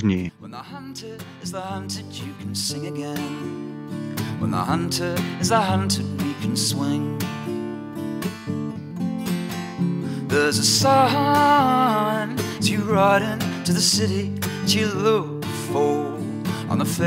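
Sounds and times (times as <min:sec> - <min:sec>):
strummed acoustic guitar music: 0:00.3 - 0:17.0.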